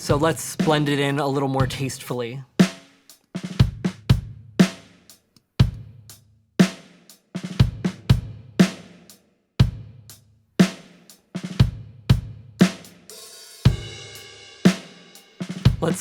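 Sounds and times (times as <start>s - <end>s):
reverberant drum kit groove: 0.0s - 16.0s.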